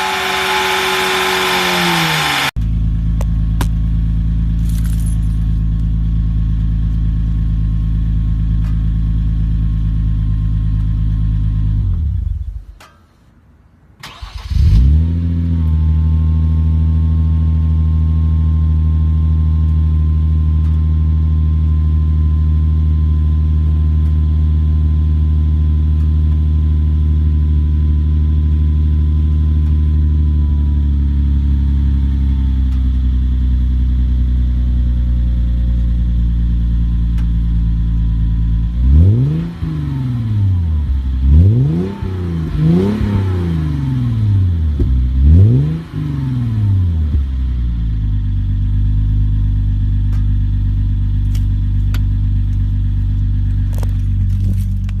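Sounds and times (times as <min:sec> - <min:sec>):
car engine idling and revving: 0:00.0 - 0:13.0, 0:14.0 - 0:55.0.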